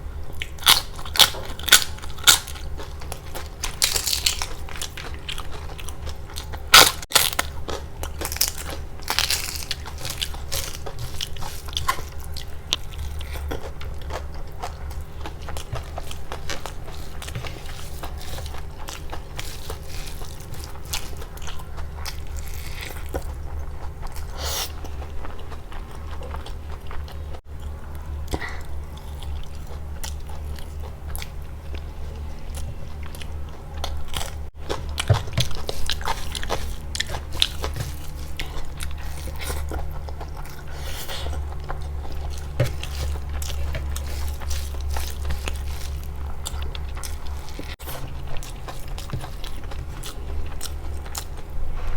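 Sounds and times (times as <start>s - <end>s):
person chewing and crunching food: 0.0s - 51.9s
steady low hum: 0.0s - 51.9s.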